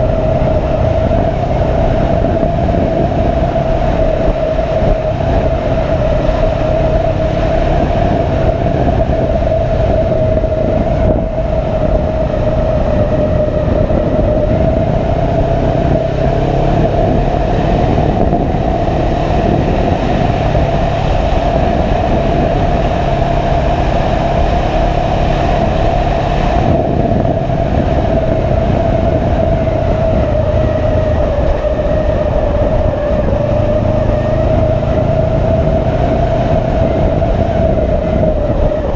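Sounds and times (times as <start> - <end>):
high steady whine: 0.0 - 38.9
motorcycle engine drone: 0.0 - 38.9
wind and road noise: 0.0 - 38.9.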